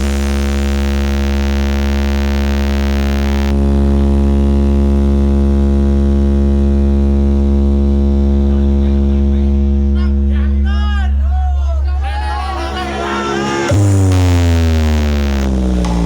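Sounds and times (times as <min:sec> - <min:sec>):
low buzzing bass drone: 0:00.0 - 0:16.0.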